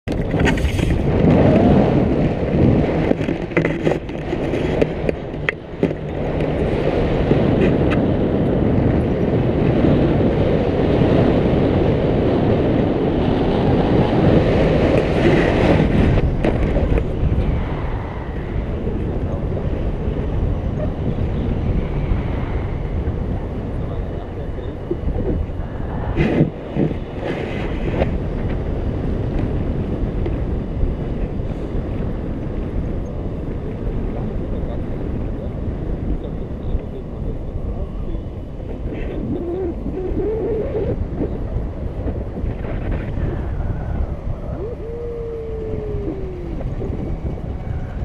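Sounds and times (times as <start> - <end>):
gusting wind noise on microphone: 0.0 - 48.0.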